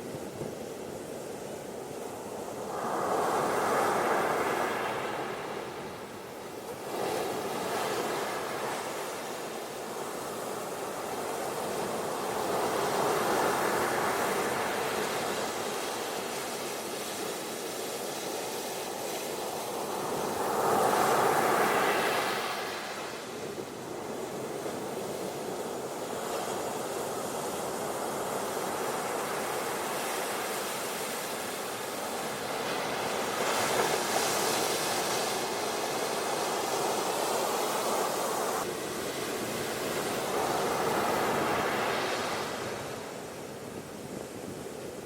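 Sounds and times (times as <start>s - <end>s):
ocean surf washing onto beach: 0.0s - 45.0s.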